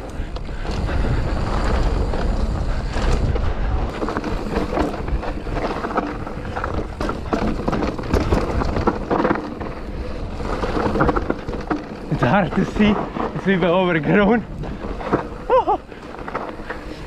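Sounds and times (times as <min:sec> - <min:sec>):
bike clattering over bumps: 0:00.0 - 0:17.0
bike tyre noise: 0:00.0 - 0:17.0
wind rumbling on microphone: 0:00.0 - 0:17.0.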